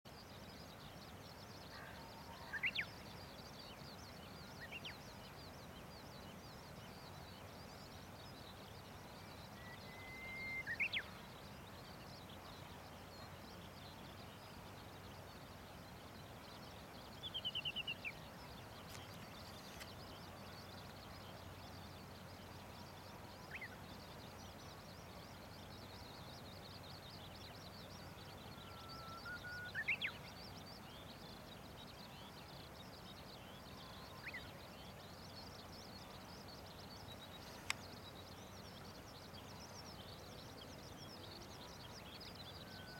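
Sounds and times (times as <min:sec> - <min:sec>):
birds singing whistled songs: 0:00.1 - 0:42.9.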